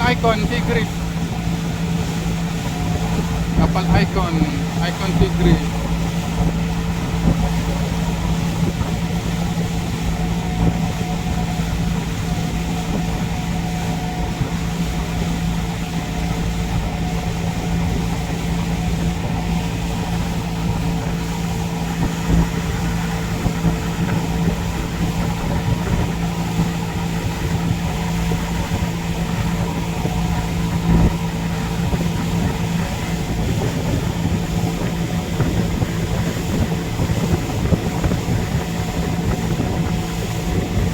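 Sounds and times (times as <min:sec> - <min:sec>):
boat engine running: 0:00.0 - 0:40.9
rushing wind: 0:00.0 - 0:40.9
water noise: 0:00.0 - 0:40.9.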